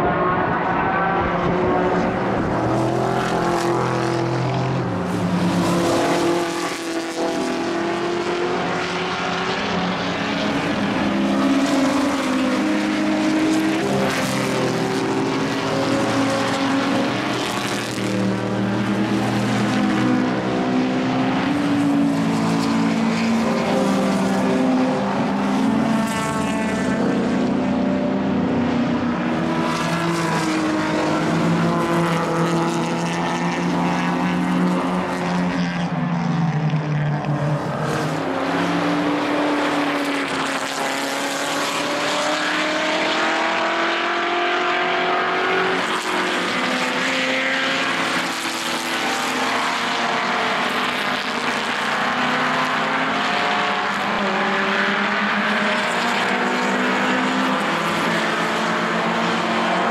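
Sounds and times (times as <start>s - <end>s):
race cars passing at high revs: 0.0s - 59.9s.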